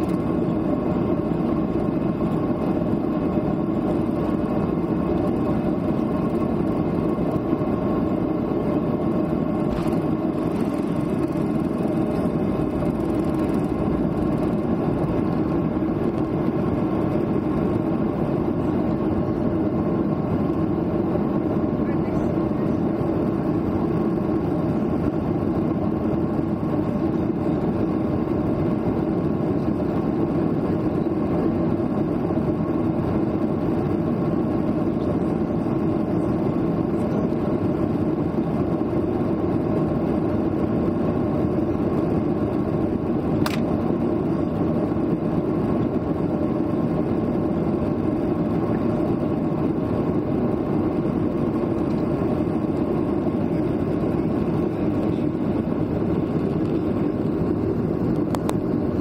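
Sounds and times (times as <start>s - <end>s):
jet airliner cabin engine noise: 0.0s - 59.0s.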